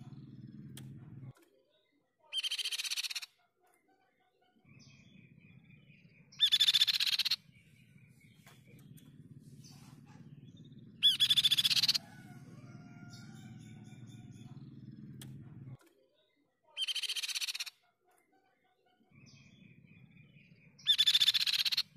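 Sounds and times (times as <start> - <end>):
bird singing rapid trills: 0.0 - 3.3, 4.6 - 17.8, 19.0 - 21.9.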